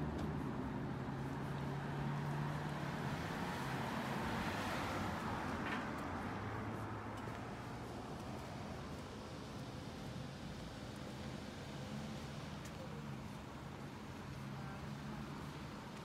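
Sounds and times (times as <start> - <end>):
car passing: 0.0 - 16.0.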